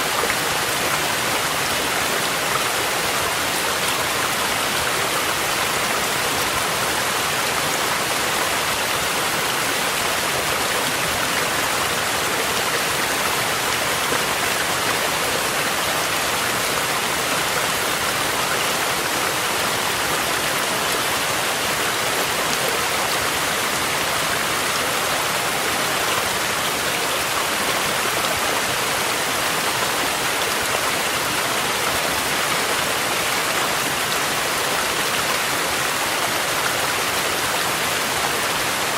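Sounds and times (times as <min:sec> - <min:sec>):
steady rain: 0:00.0 - 0:38.9
stream flowing: 0:00.0 - 0:38.9.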